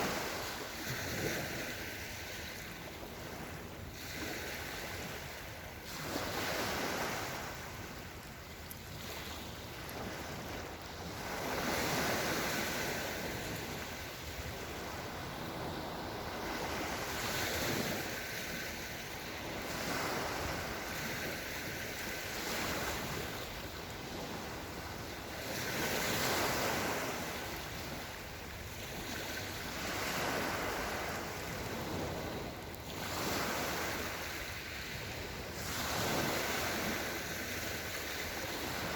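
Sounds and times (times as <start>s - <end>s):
small waves washing onto shore: 0.0s - 38.9s.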